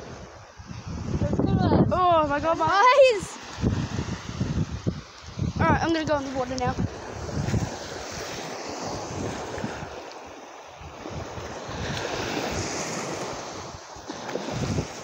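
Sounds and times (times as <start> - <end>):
waves washing over sand: 0.0 - 15.0
wind buffeting microphone: 0.0 - 15.0.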